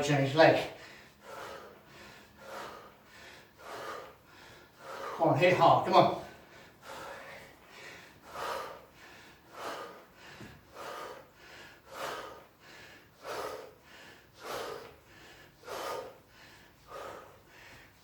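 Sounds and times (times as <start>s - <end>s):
person breathing hard: 0.6s - 18.0s.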